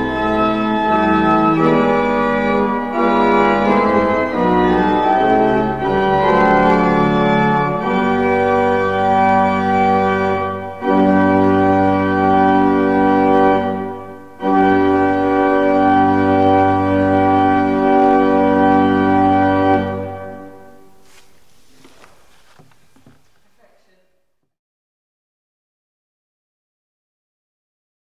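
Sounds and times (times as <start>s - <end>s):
pipe organ chords: 0.0s - 23.5s.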